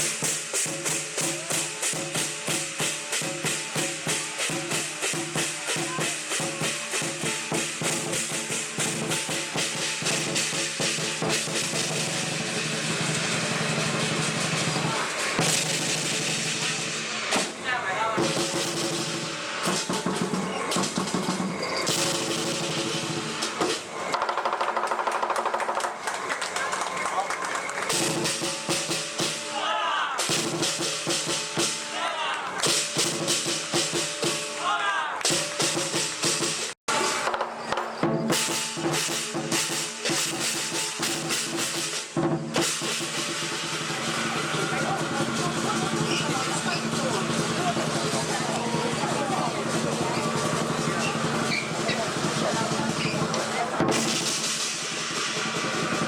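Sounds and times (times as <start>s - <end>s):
big drum beating: 0.0s - 24.3s, 27.9s - 29.5s, 30.2s - 31.9s, 32.6s - 34.6s, 35.2s - 56.0s
cymbals clashing: 0.0s - 24.4s, 26.2s - 56.0s.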